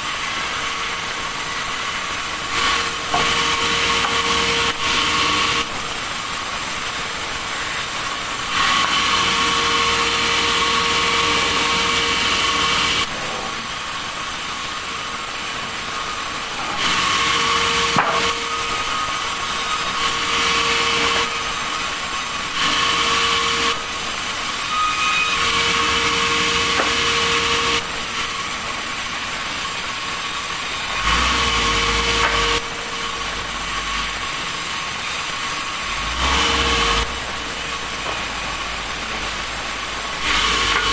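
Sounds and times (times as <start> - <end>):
saw cutting through log: 0.0 - 6.0, 7.6 - 14.0, 16.4 - 40.9.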